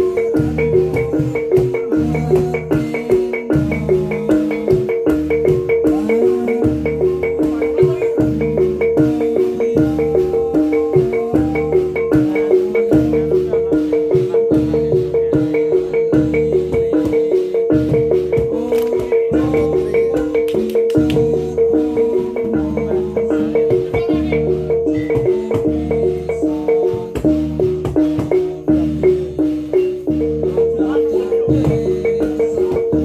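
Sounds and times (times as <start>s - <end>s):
gamelan playing fast pattern: 0.0s - 33.0s.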